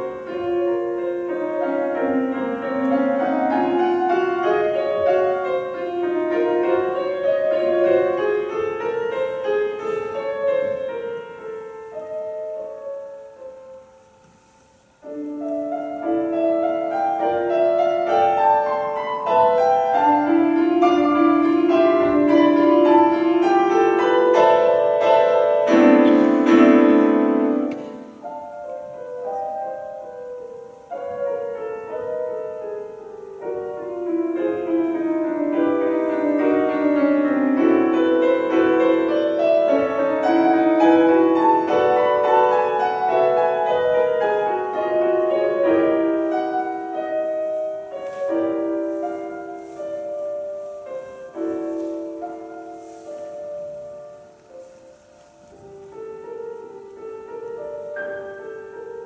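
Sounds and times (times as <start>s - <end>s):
solo piano classical music: 0.0s - 59.0s.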